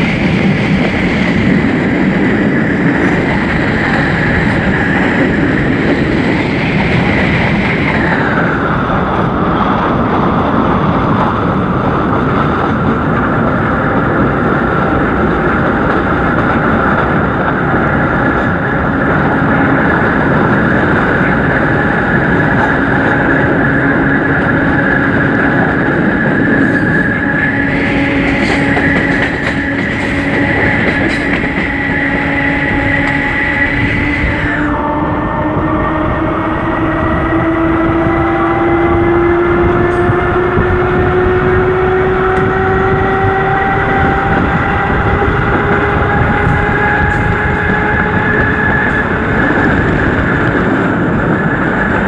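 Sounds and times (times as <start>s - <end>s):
electric train roaring and whining: 0.0s - 52.0s.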